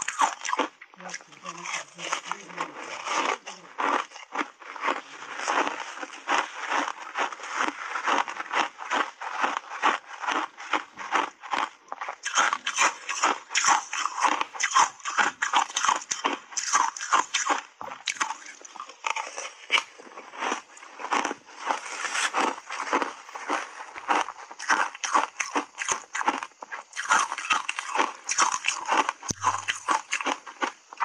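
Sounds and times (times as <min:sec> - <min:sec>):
crunching ice chewed: 0:00.0 - 0:31.0.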